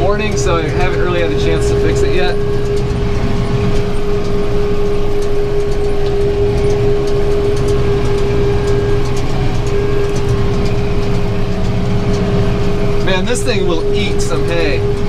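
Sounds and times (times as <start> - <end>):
round baler feeding hay: 0.0 - 15.0
steady hum: 0.0 - 15.0
tractor engine running under load: 0.0 - 15.0.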